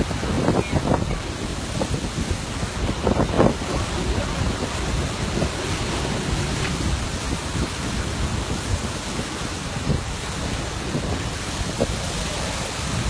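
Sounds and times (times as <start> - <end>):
surf and steam rushing: 0.0 - 13.0
wind buffeting microphone: 0.0 - 13.0.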